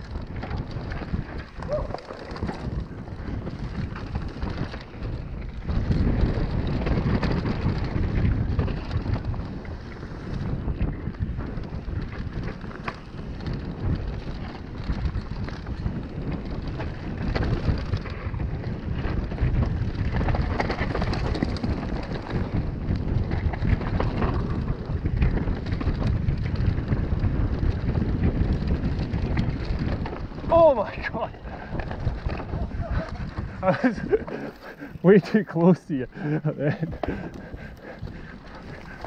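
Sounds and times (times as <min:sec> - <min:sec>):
bike clicks and rattles: 0:00.0 - 0:39.0
bike tyres on dirt: 0:00.0 - 0:39.0
wind buffeting microphone: 0:00.0 - 0:39.0.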